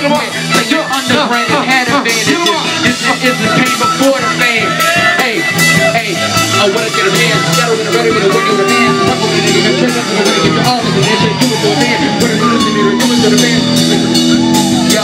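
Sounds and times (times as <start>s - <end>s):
electric guitar playing: 0.0s - 15.0s
steady drum beat: 0.0s - 15.0s.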